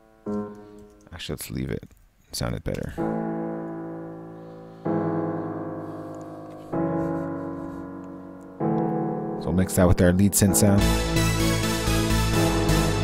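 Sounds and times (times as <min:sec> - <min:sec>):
piano playing sustained chords: 0:00.0 - 0:01.2, 0:03.0 - 0:13.0.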